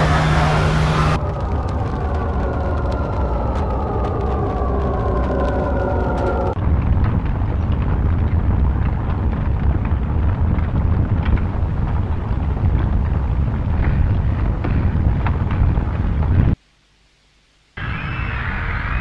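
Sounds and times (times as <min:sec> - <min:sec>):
low rumbling roar with crackles: 0:00.0 - 0:16.6, 0:17.8 - 0:19.0.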